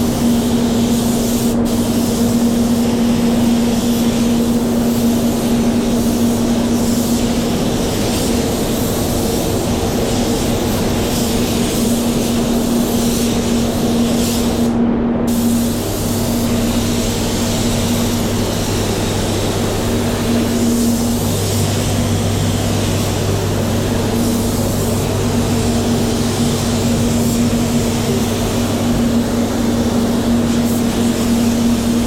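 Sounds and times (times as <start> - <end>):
air spray gun hissing: 0.0 - 32.0
steady low hum: 0.0 - 32.0.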